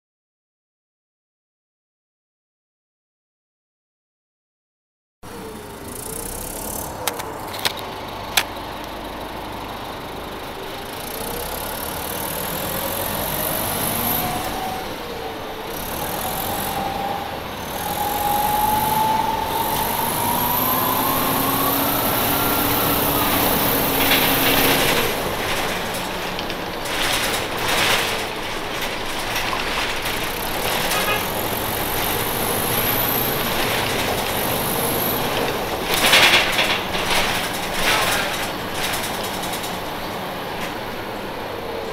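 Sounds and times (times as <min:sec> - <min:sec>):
bus engine whine: 0:05.2 - 0:41.9.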